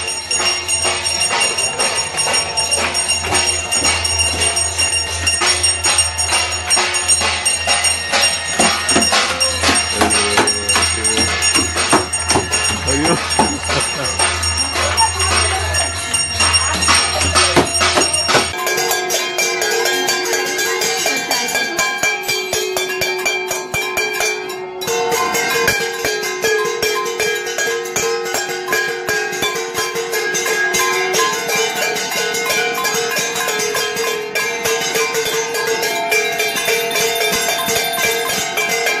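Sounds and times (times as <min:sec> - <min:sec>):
metal bells ringing: 0:00.0 - 0:39.0
steel plates beaten with spoons: 0:00.0 - 0:39.0.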